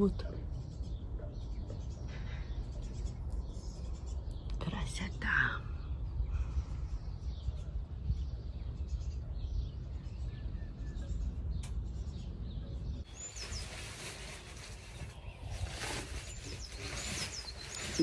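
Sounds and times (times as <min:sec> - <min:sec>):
bird chirps: 0:00.0 - 0:18.0
wind rumble on microphone: 0:00.0 - 0:18.0.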